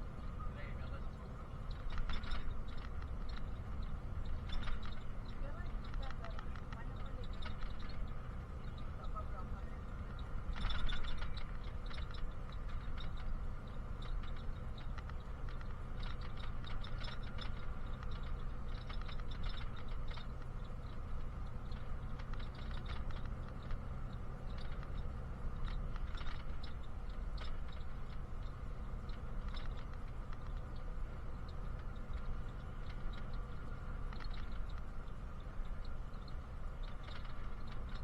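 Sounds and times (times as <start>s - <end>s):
bus engine drone: 0.0s - 38.0s
road noise: 0.0s - 38.0s.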